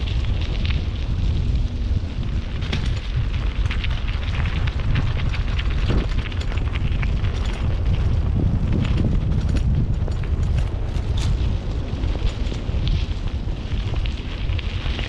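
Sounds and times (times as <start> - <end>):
small crackles and ticks: 0.0 - 15.0
wind rumbling on microphone: 0.0 - 15.0.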